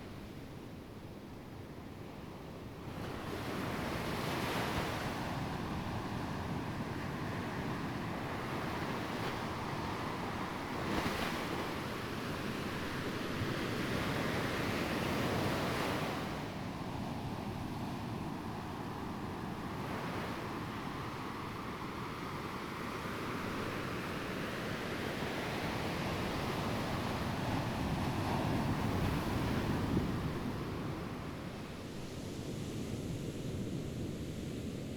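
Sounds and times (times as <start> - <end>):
ocean waves breaking on shore: 2.9 - 34.6.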